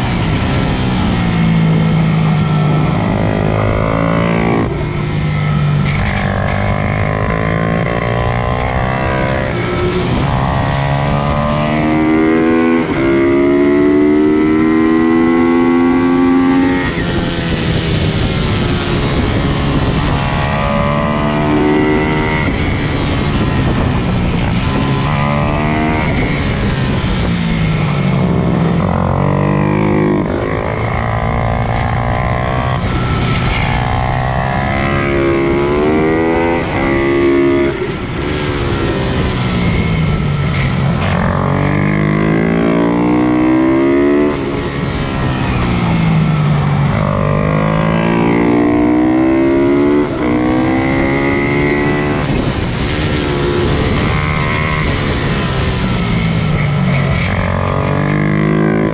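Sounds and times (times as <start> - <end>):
pit bike engines revving: 0.0 - 58.9.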